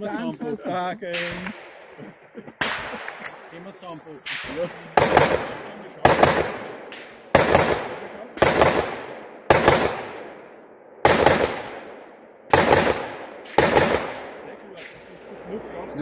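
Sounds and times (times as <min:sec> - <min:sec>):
rifle shots echoing: 0:01.1 - 0:15.5.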